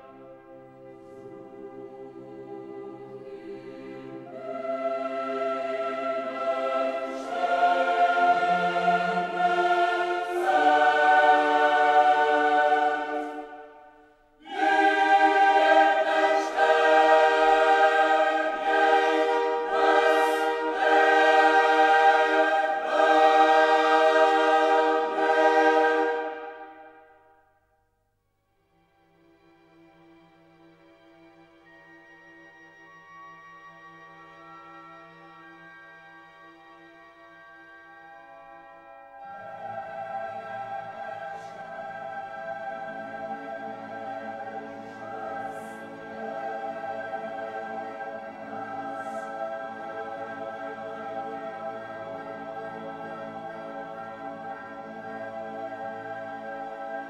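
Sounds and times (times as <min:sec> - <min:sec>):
choir singing held chords: 0:00.0 - 0:27.5, 0:38.6 - 0:57.0.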